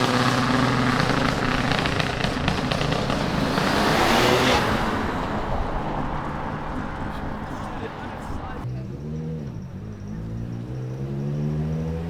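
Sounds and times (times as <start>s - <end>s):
car engine driving past: 0.0s - 12.0s.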